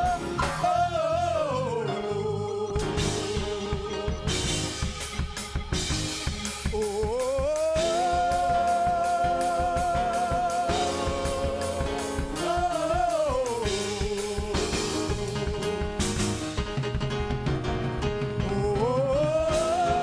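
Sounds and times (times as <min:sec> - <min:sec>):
steady drum beats: 0:00.0 - 0:00.9, 0:02.8 - 0:20.0
person singing gospel: 0:00.0 - 0:16.6, 0:18.2 - 0:20.0.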